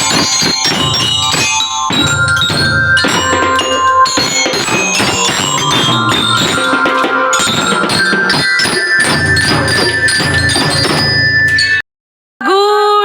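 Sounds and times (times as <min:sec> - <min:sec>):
bell lyres playing melody: 0:00.0 - 0:11.8
drum beats: 0:00.0 - 0:11.8.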